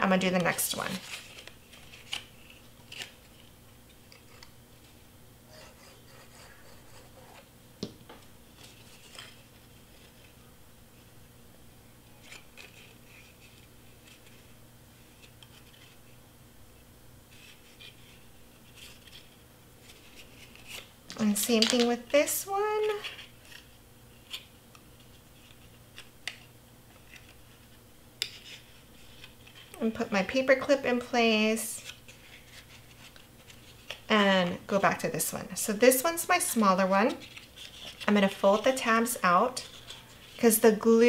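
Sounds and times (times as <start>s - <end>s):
low room hum: 0.0s - 41.0s
cardstock rustling and rubbing: 0.2s - 7.5s, 8.6s - 10.4s, 12.1s - 16.2s, 17.3s - 35.2s, 35.9s - 40.6s.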